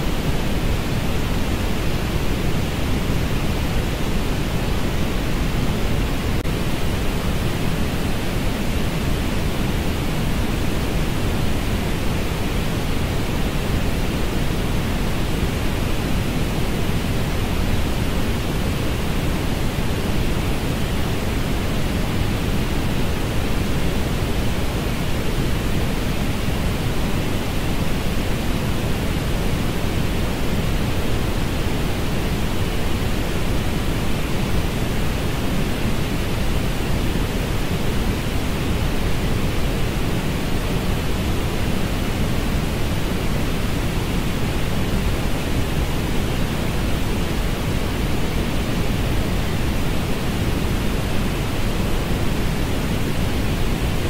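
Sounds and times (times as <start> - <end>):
steady rushing noise hiss: 0.0 - 54.0.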